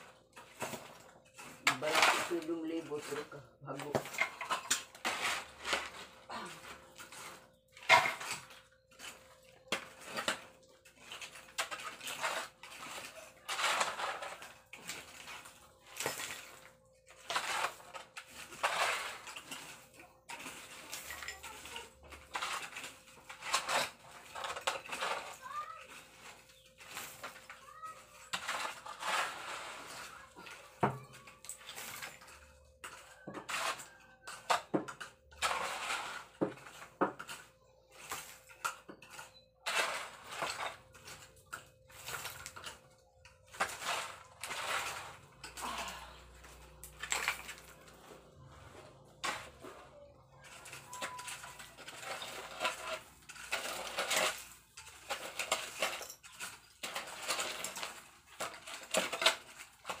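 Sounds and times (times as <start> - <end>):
metal shovel scraping rubble: 0.0 - 60.0.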